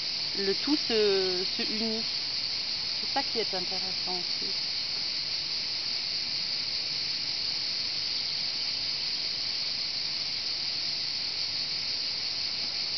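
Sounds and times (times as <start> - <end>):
cicadas buzzing: 0.0 - 12.9.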